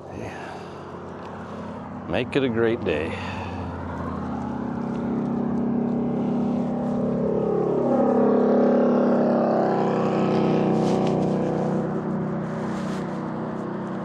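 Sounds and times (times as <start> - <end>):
vehicle engine passing by: 0.0 - 14.0.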